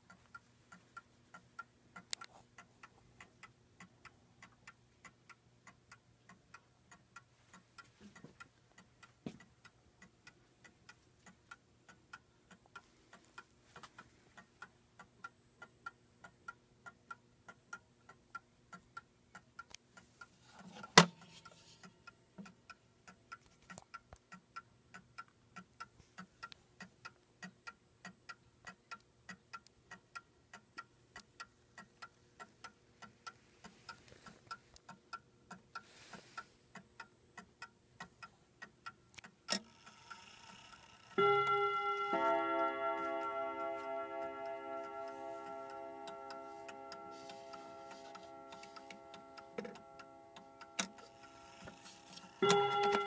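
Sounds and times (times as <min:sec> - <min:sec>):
mantel clock ticking: 0:00.0 - 0:53.0.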